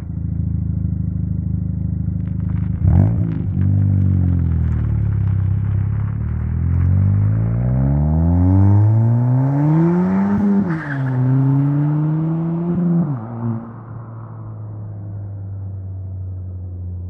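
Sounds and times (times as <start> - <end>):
car engine accelerating: 0.7 - 14.8.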